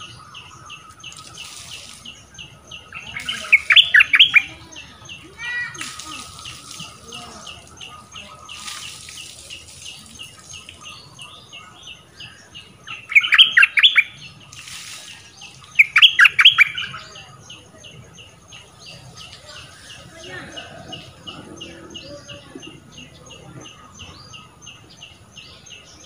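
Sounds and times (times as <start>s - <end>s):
bird warbling song: 0.0s - 26.0s.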